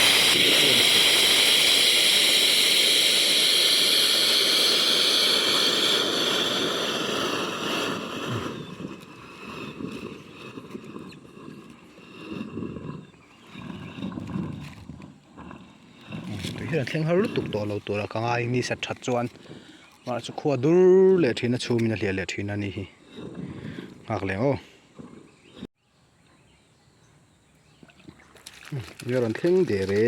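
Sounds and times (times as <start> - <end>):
air and water hissing from pipe: 0.0 - 24.8.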